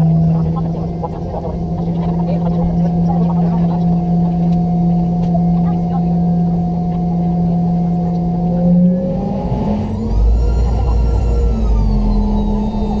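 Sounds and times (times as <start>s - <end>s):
heavy low rumble: 0.0s - 13.0s
jet engines whining: 0.0s - 13.0s.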